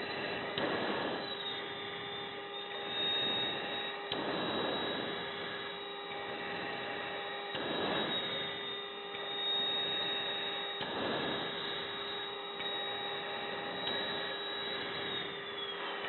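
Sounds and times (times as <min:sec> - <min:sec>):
intercom hum and hiss: 0:00.0 - 0:01.2, 0:01.8 - 0:08.6, 0:09.3 - 0:16.0.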